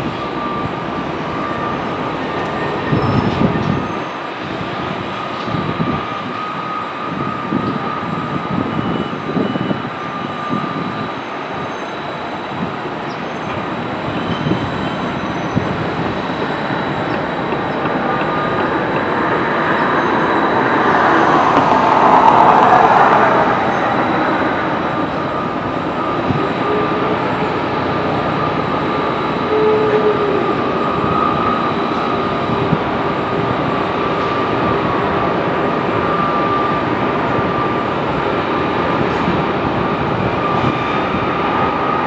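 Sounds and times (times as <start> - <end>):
wheel squeal: 0.0 - 4.5, 5.1 - 32.7, 33.3 - 39.4
train cars rumbling on track: 0.0 - 42.0.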